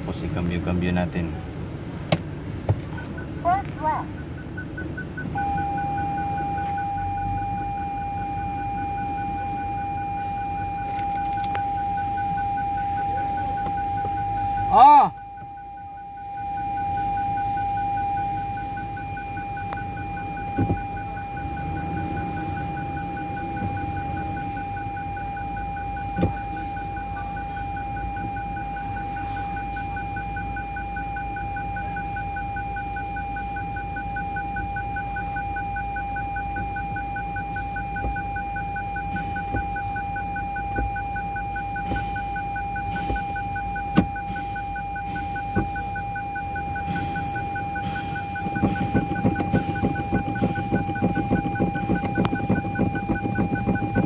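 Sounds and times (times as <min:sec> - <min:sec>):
car engine idling: 0:00.0 - 0:54.0
pulsing beep: 0:03.0 - 0:54.0.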